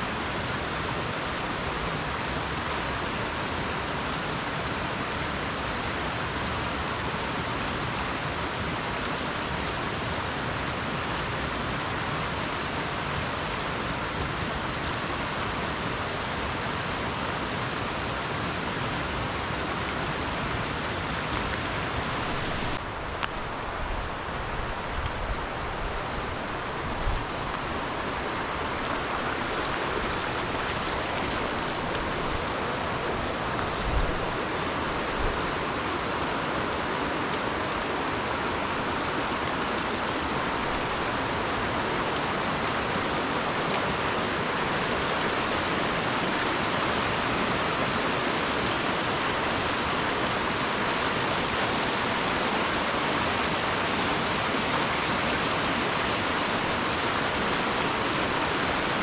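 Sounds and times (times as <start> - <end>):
rushing mountain stream: 0.0 - 59.0.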